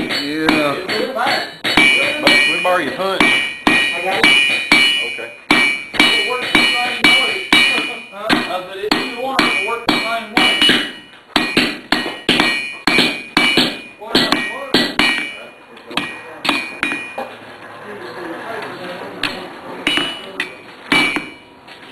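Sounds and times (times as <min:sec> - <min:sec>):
anvil ringing: 0:00.0 - 0:17.4, 0:19.2 - 0:21.6.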